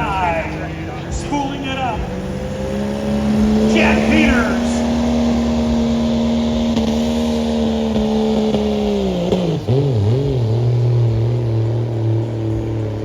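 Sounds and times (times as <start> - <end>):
diesel truck engine revving: 0.0 - 13.0.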